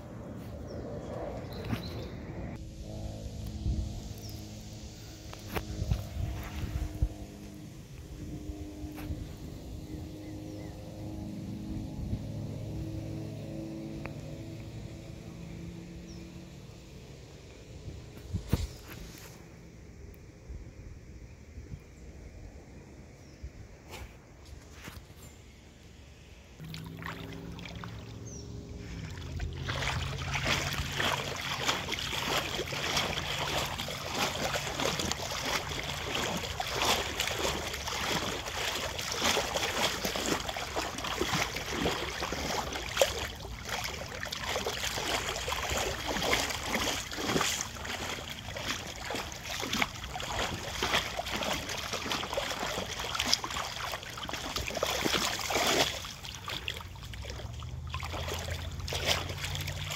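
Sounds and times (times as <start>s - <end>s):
river water splashing against boat: 1.5s - 19.8s, 26.6s - 59.9s.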